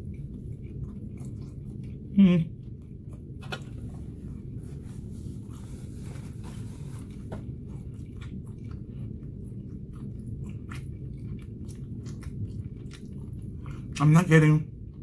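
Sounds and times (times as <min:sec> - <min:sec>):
person chewing food: 0:00.0 - 0:14.0, 0:14.7 - 0:15.0
low hum: 0:00.0 - 0:15.0.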